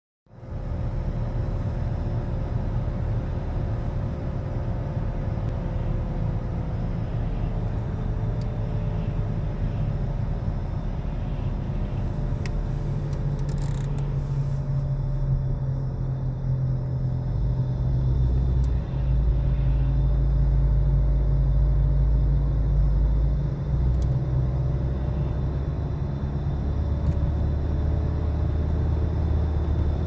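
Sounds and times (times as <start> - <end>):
road noise: 0.3 - 30.0
wheel bearing hum: 0.4 - 30.0.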